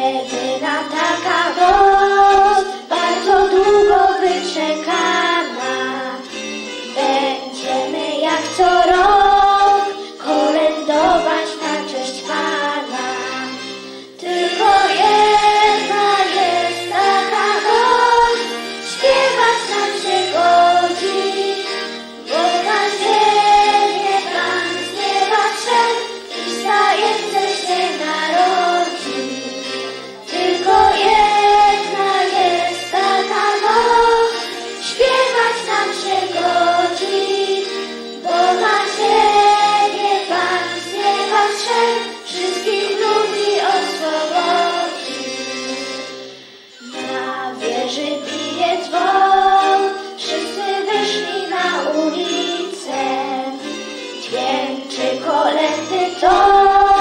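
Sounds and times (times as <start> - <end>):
girls singing into microphones: 0.0 - 13.6, 14.2 - 46.1, 46.9 - 57.0
instrumental accompaniment: 0.0 - 57.0.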